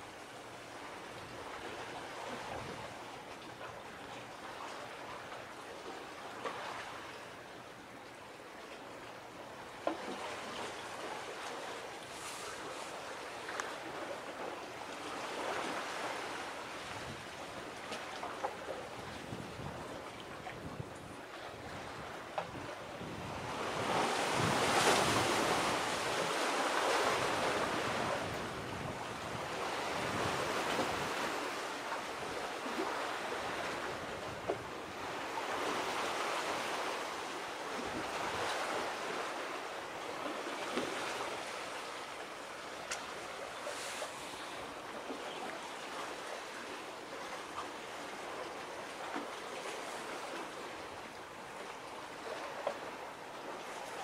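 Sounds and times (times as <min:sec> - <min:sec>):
sea waves washing ashore: 0:00.0 - 0:54.0.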